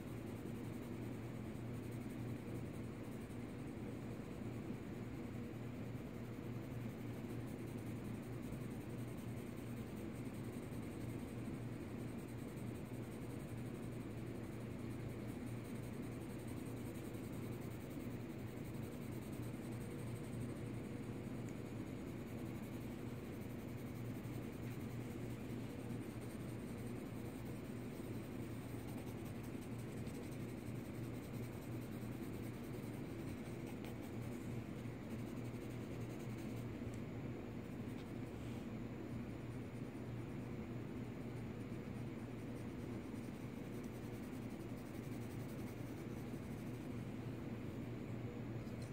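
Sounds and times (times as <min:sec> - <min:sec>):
low steady hum: 0:00.0 - 0:48.9
pencil scratching on paper: 0:00.1 - 0:04.1, 0:05.9 - 0:36.7, 0:41.5 - 0:47.0.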